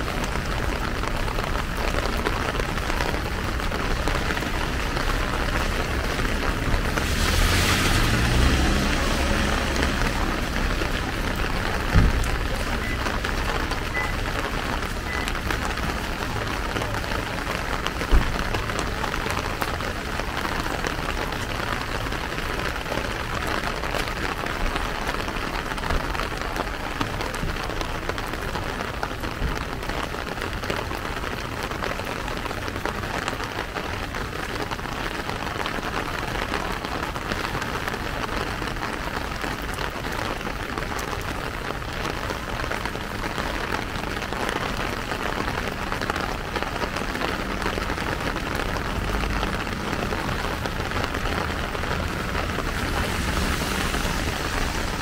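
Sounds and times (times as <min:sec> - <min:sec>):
rain on a plastic umbrella: 0:00.0 - 0:55.0.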